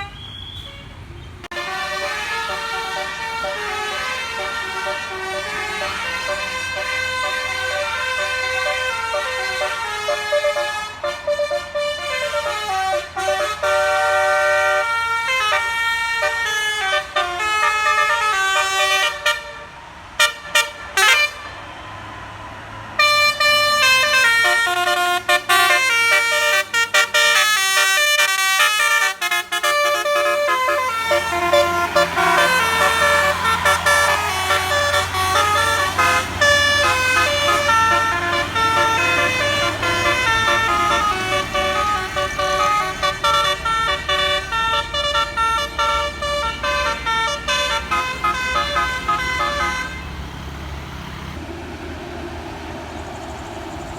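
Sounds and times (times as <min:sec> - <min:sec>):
musical bus horn melody: 0:00.0 - 0:21.6, 0:23.0 - 0:50.4.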